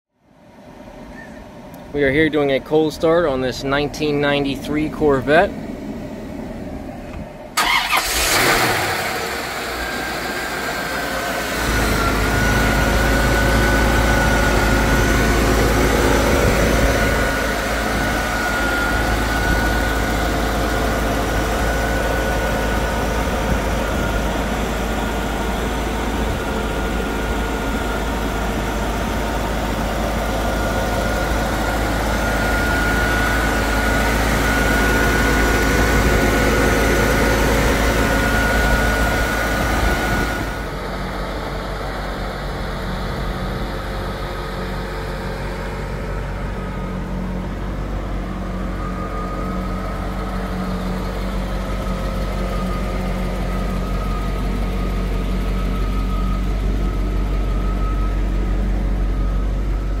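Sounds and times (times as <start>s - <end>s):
car engine idling: 0.2s - 60.0s.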